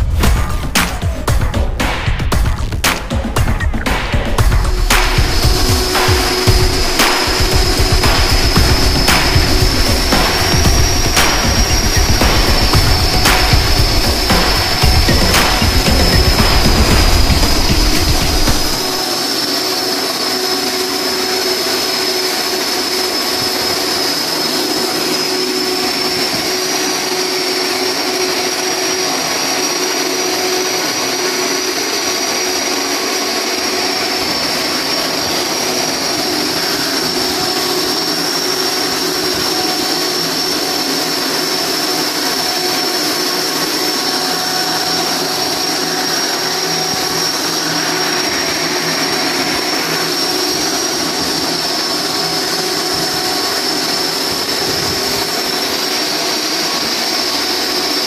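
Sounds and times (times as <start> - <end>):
industrial machinery hiss and whistle: 0.0 - 58.0.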